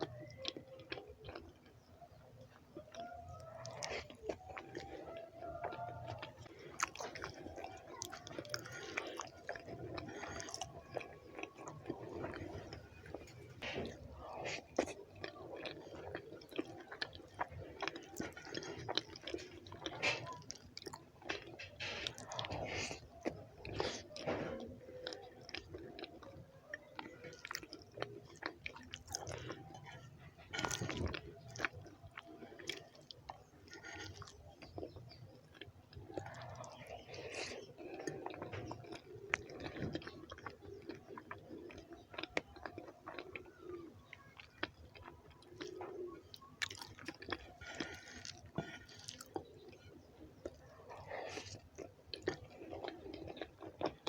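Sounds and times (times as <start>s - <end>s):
person chewing with wet mouth clicks: 0.0s - 54.0s.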